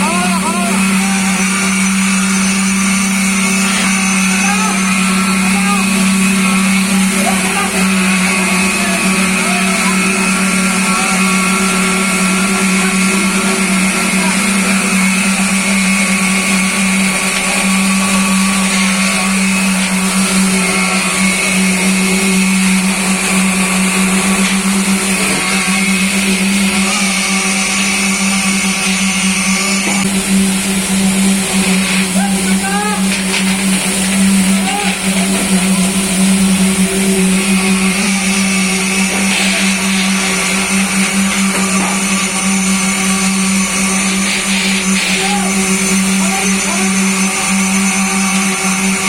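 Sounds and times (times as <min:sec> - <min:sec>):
machinery motor hum: 0:00.0 - 0:49.0.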